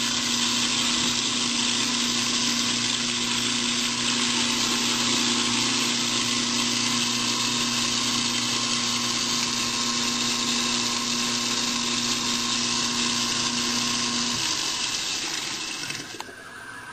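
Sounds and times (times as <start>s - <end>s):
garbage disposer motor hum: 0.0s - 16.9s.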